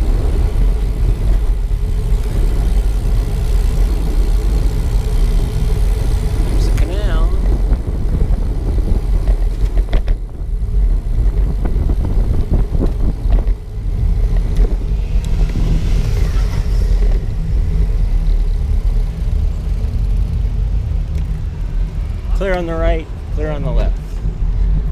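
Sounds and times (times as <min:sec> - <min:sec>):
wind and road rumble: 0:00.0 - 0:24.9.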